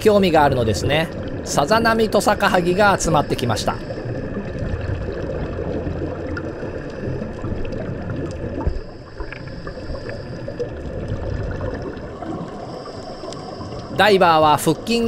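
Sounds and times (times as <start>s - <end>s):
underwater bubbles gurgling: 0.0s - 15.0s.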